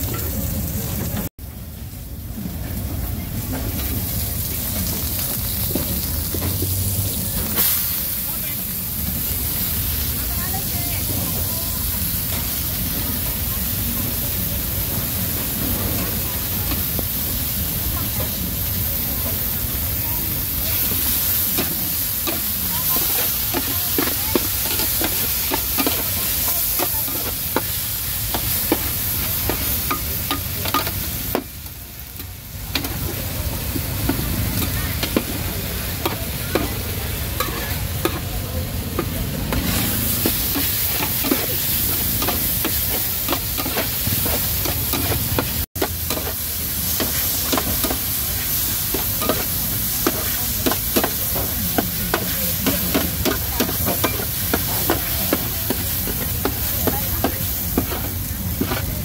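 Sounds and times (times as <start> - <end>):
food sizzling on griddle: 0.0 - 59.0.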